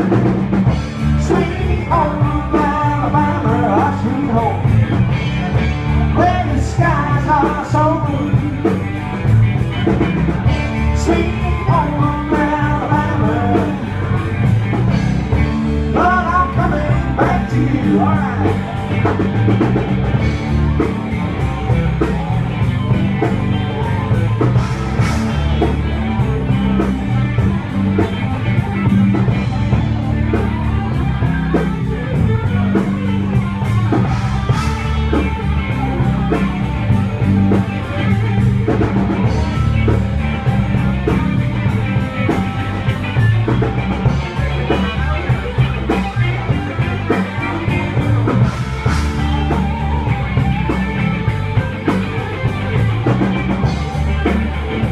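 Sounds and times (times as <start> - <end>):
rock band playing live: 0.0 - 54.9.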